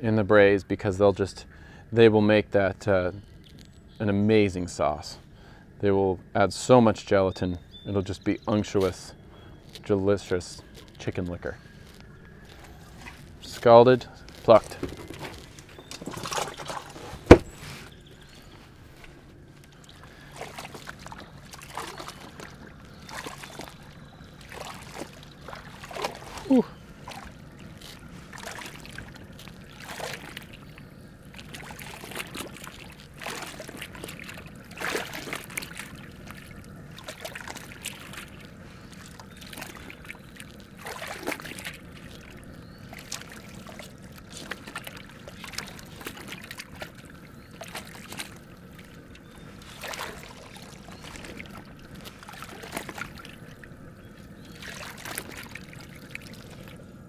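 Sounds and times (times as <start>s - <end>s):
water sloshing and splashing: 7.9s - 57.0s.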